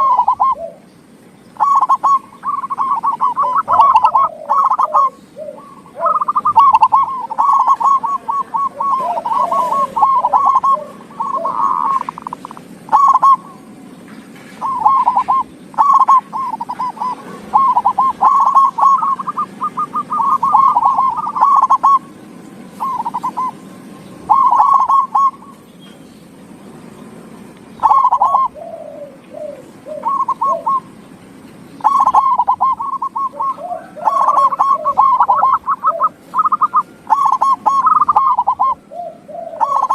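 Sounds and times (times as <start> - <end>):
dove cooing: 0.0 - 0.9, 1.5 - 25.7, 27.8 - 31.2, 31.8 - 39.9.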